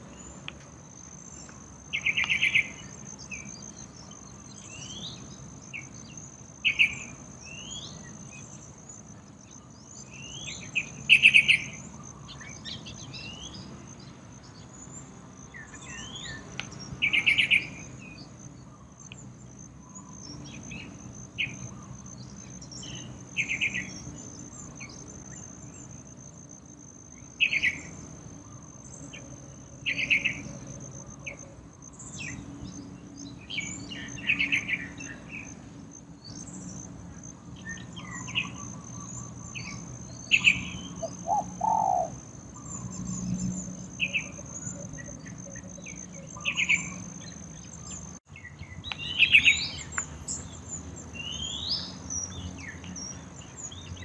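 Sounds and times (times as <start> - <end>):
bird chirping: 1.2 - 26.0, 27.1 - 35.6, 37.6 - 54.0.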